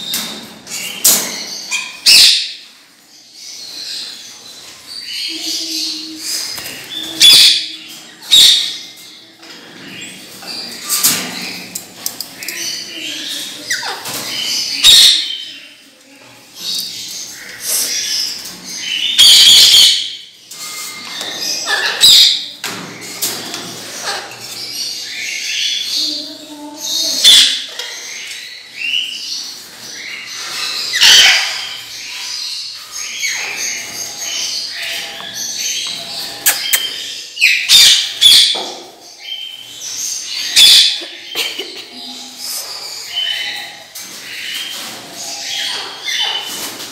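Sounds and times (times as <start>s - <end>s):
parrots chirping and screeching: 0.0s - 15.8s, 16.4s - 46.9s.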